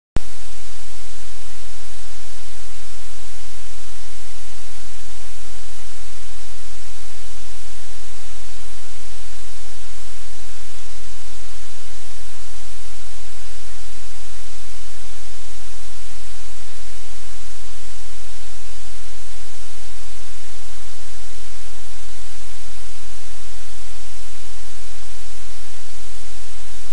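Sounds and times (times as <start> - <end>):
loud static hiss: 0.2 - 26.9.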